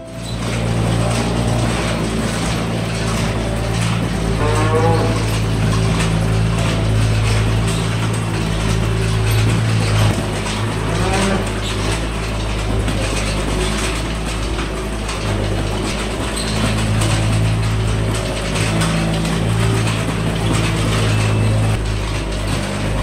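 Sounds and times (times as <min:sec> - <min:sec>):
engine hum: 0:00.0 - 0:23.0
mechanical clatter: 0:00.0 - 0:23.0.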